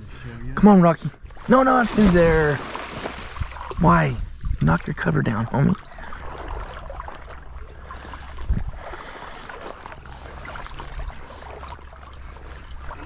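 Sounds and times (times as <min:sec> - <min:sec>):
water sloshing as person wades: 0:01.1 - 0:13.0.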